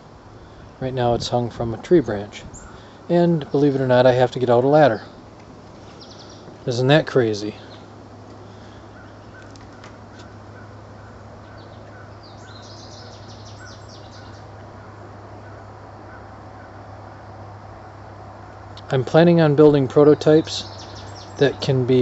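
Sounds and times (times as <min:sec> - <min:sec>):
steady low hum: 0:00.0 - 0:22.0
small birds chirping: 0:01.9 - 0:17.3, 0:17.9 - 0:22.0.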